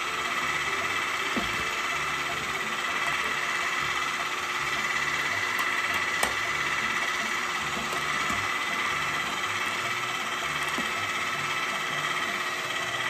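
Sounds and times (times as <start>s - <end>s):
electric hand mixer whipping cream: 0.0s - 13.0s.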